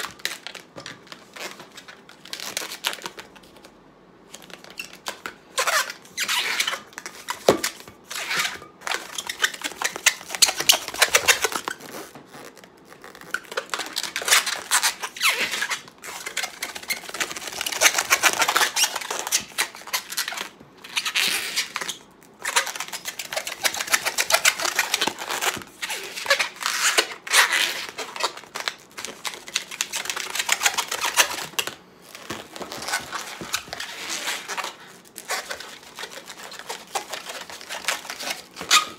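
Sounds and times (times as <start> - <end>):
balloon squeaking and rubbing: 4.4 - 38.9.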